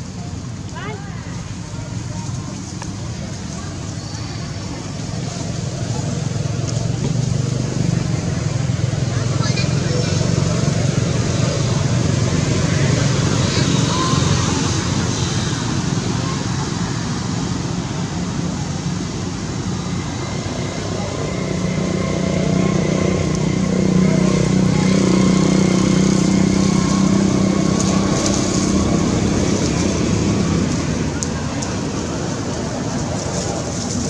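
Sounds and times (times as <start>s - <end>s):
traffic hum: 0.0s - 34.0s
passing vehicle engine: 1.5s - 34.0s.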